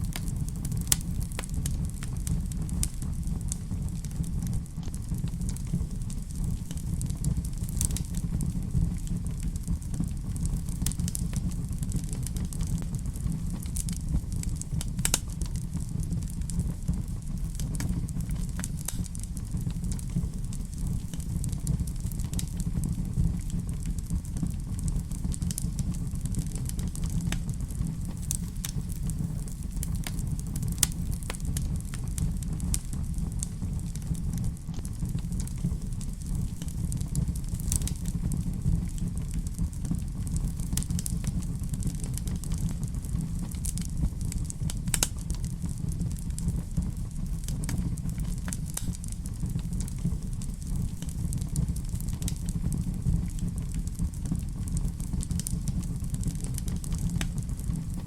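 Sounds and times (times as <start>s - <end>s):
sharp fire pops: 0.0s - 58.0s
wood fire crackling: 0.0s - 58.0s.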